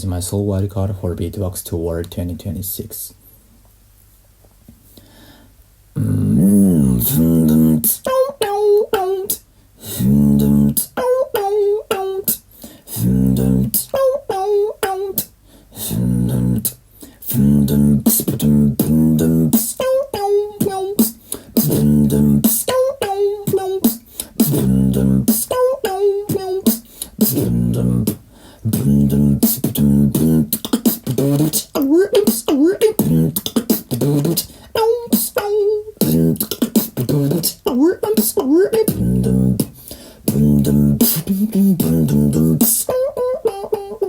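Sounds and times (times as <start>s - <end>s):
person beatboxing: 6.0s - 44.0s.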